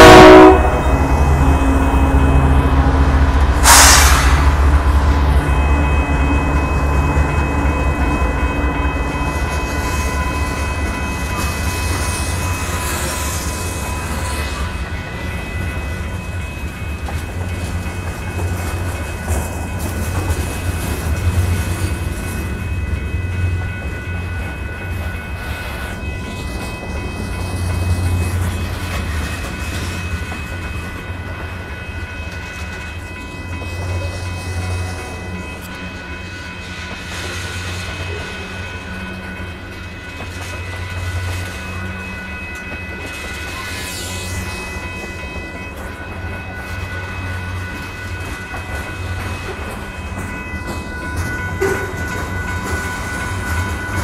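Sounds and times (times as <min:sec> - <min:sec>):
freight train rumbling past: 0:00.0 - 0:54.0
train wheels clattering: 0:06.6 - 0:54.0.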